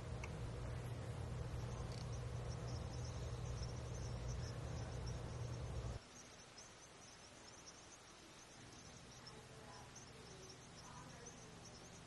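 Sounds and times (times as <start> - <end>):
small birds twittering: 0.0 - 12.0.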